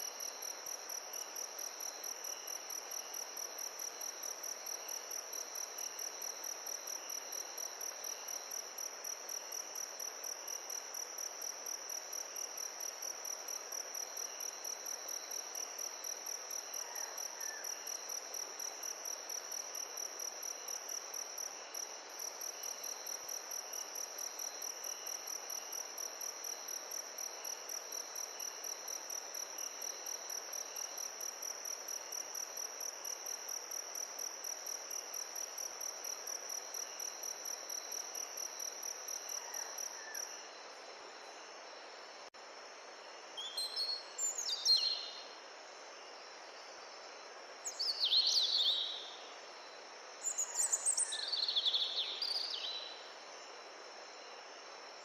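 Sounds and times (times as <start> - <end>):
insect chirping trill: 0.0 - 42.2, 43.0 - 55.0
background hiss: 0.0 - 55.0.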